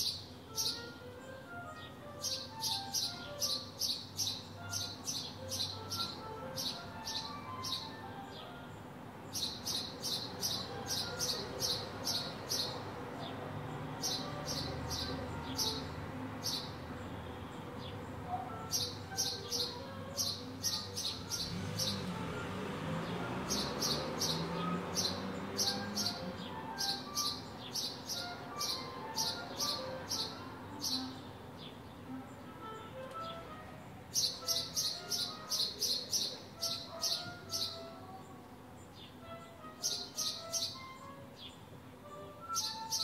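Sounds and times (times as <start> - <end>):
low street background: 0.0 - 43.0.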